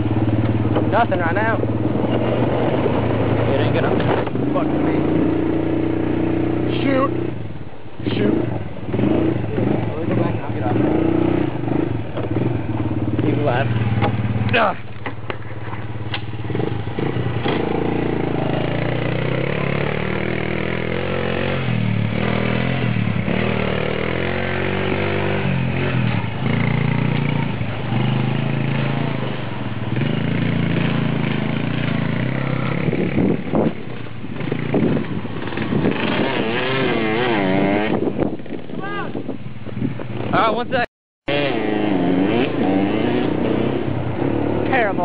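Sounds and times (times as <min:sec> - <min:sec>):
small engine revving: 0:00.0 - 0:07.4, 0:08.0 - 0:39.1, 0:41.3 - 0:45.0.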